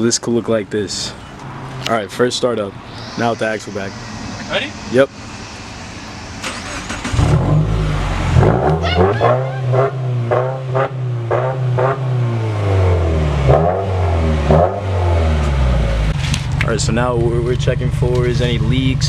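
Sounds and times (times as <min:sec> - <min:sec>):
car engine cranking and idling: 0:00.0 - 0:19.0.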